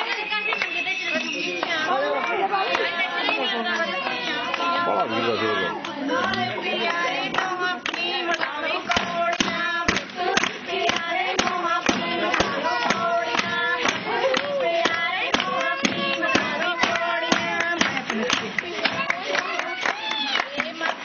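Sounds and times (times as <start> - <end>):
handclaps beat: 0.0 - 4.9, 5.8 - 21.0
women singing together: 0.0 - 21.0.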